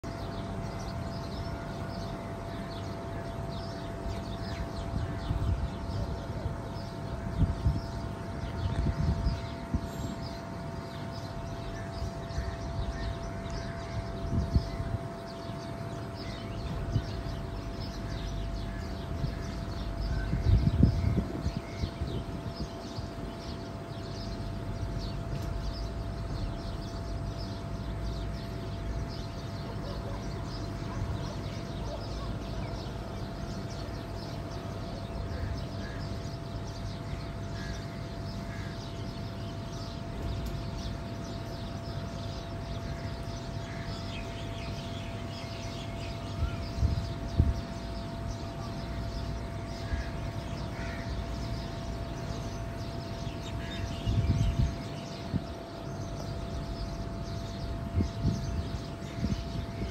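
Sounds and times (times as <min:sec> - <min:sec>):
faint steady hum: 0:00.0 - 0:59.9
low bird calls: 0:00.0 - 0:59.9
low outdoor rumble: 0:00.0 - 0:59.9
small birds chirping: 0:00.0 - 0:59.9.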